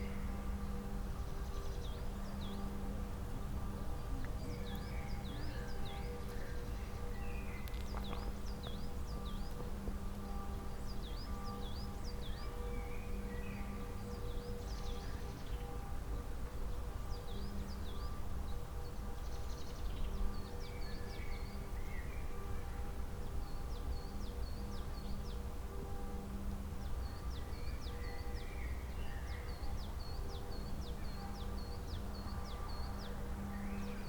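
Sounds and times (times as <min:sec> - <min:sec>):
songbird chirping: 0:00.0 - 0:03.0, 0:03.6 - 0:34.0.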